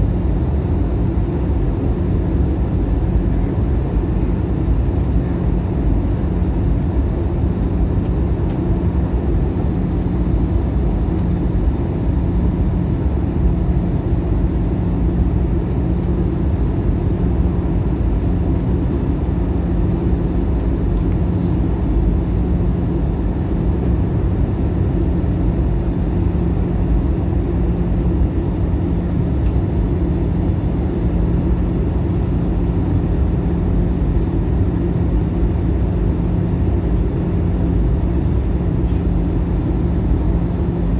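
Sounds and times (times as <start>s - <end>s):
airplane cabin engine roar: 0.0s - 40.9s
steady hum: 0.0s - 40.9s.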